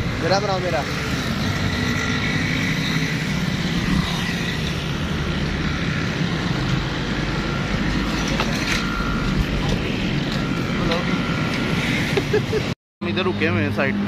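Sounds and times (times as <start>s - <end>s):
motorcycle engines passing: 0.0s - 14.0s
road traffic drone: 0.0s - 14.0s.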